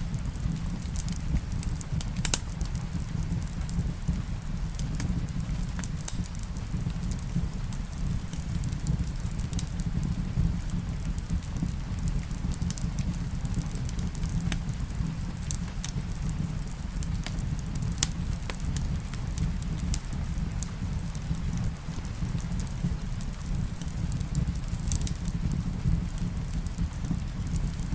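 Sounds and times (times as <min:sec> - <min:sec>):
rain: 0:00.0 - 0:27.9
wood fire crackling: 0:00.0 - 0:27.9.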